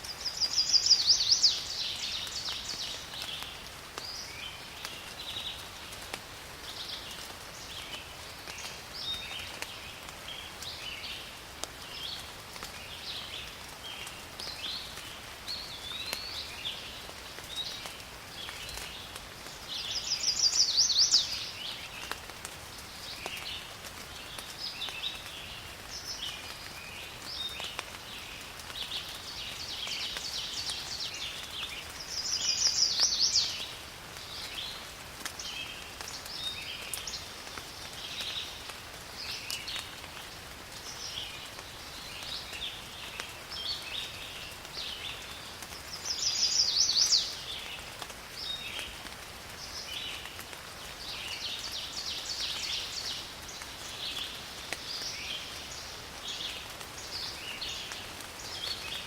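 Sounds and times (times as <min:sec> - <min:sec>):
faint rain hiss: 0:00.0 - 0:59.0.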